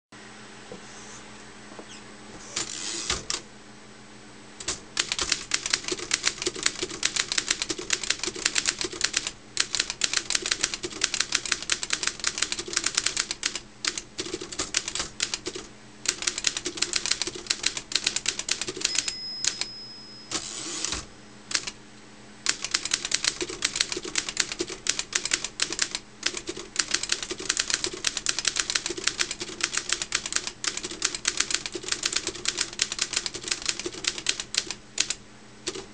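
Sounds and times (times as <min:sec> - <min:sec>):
manual typewriter typing: 0:04.6 - 0:19.7, 0:20.3 - 0:21.8, 0:22.5 - 0:35.9.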